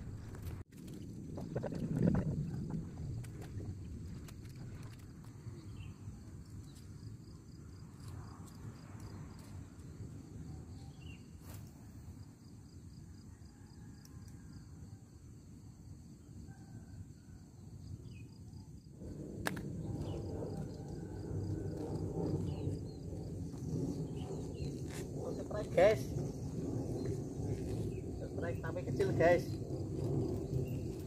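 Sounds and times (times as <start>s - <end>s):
wind rumble on microphone: 0.0s - 11.9s, 16.5s - 31.0s
insects chirring: 0.0s - 31.0s.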